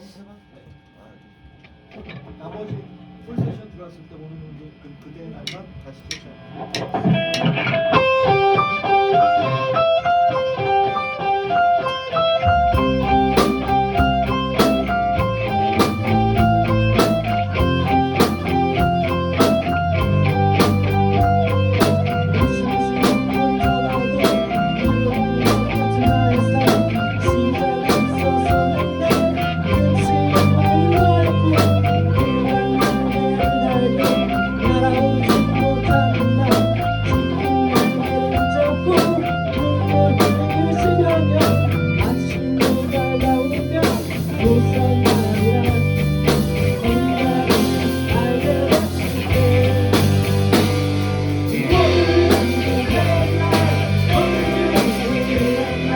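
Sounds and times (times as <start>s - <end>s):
electric guitar: 0.6s - 3.8s, 4.8s - 55.9s
drums steady beat: 5.4s - 7.6s, 12.7s - 55.9s
bass notes: 10.7s - 55.9s.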